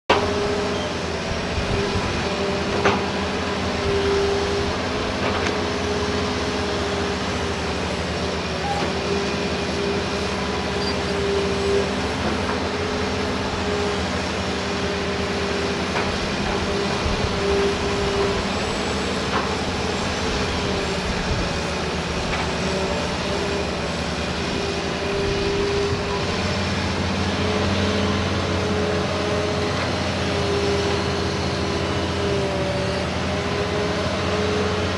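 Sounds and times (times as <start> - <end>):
excavator engine and hydraulics: 0.1 - 34.9
wavering hydraulic whine: 0.2 - 34.9.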